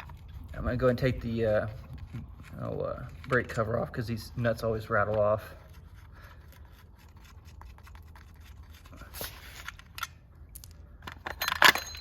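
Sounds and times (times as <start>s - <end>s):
hand tool scraping and clicking: 0.0s - 12.0s.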